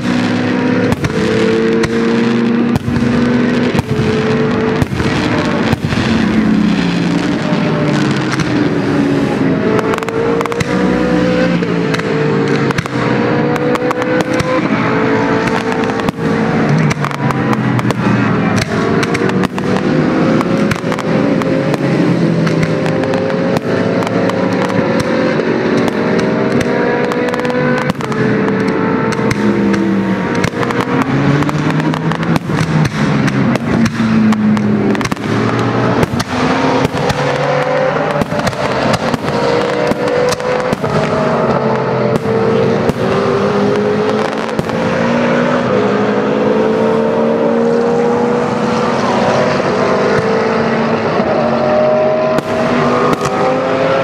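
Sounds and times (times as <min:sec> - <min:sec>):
fireworks bangs and crackles: 0:00.0 - 0:46.4, 0:48.8 - 0:54.0
race car engines accelerating past: 0:00.0 - 0:54.0.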